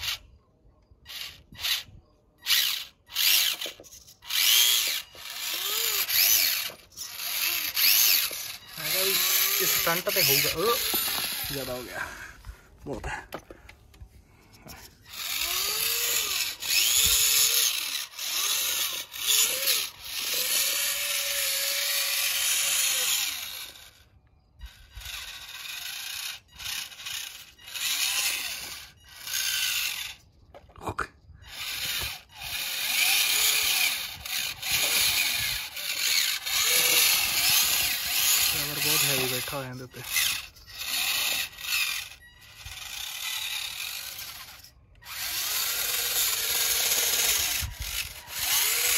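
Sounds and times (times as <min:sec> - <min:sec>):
small electric motor whining: 0:00.0 - 0:12.5, 0:13.3 - 0:30.4, 0:31.4 - 0:48.9.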